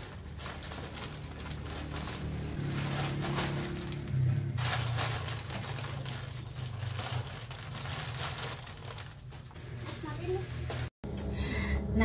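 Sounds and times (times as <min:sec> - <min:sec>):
plastic sachets crinkling: 0:00.0 - 0:10.9.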